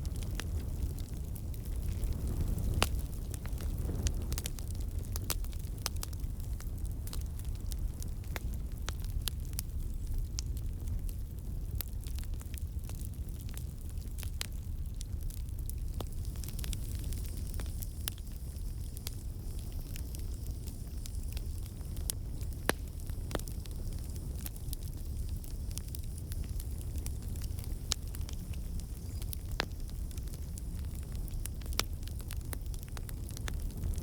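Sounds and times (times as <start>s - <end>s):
campfire flames rumbling: 0.0s - 34.0s
wood crackling and popping: 0.0s - 34.0s.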